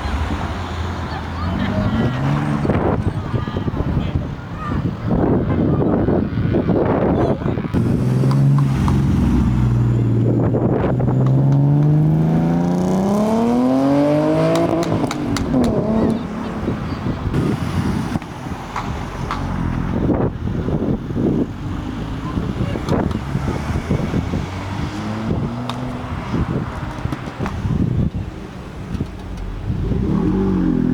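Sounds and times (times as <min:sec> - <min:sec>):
car engine accelerating: 0:00.0 - 0:03.2, 0:07.7 - 0:28.2, 0:28.8 - 0:30.9
road noise: 0:00.0 - 0:30.9.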